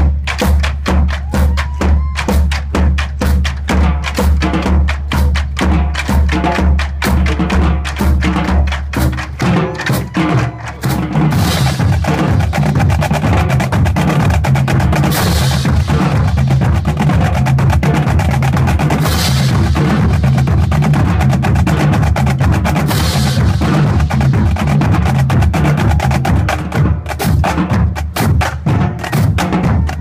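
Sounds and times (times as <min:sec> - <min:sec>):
drumline playing: 0:00.0 - 0:30.0.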